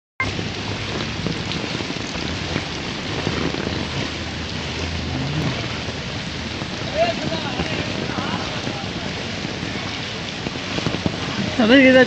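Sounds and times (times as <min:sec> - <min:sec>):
heavy rain pouring: 0:00.2 - 0:12.0.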